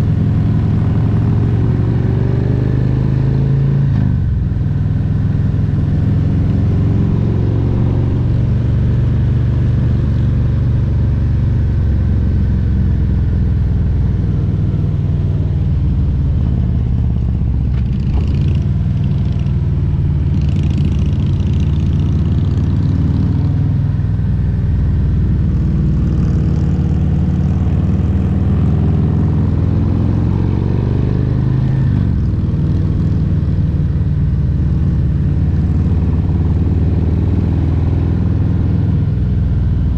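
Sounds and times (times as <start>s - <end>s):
motorcycle engine running: 4.1s - 39.9s.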